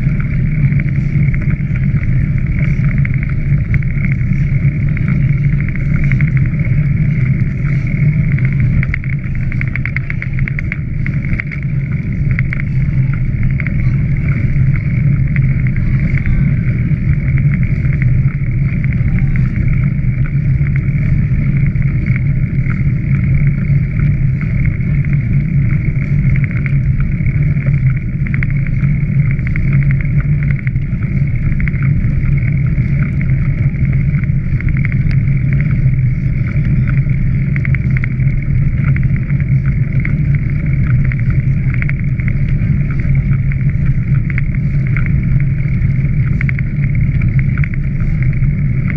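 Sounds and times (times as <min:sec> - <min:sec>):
wind rush and rumble: 0:00.0 - 0:48.9.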